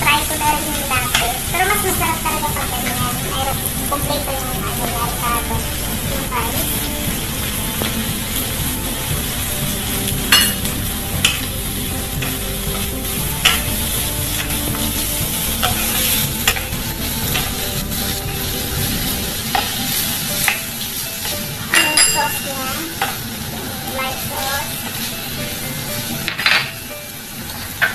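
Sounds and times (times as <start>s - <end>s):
food sizzling in oil: 0.0s - 27.9s
wooden spatula scraping a wok: 0.0s - 27.9s.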